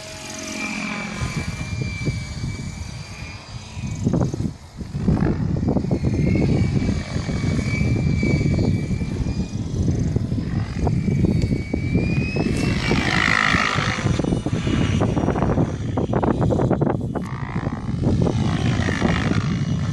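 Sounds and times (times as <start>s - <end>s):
helicopter rotor whine: 0.0s - 19.9s.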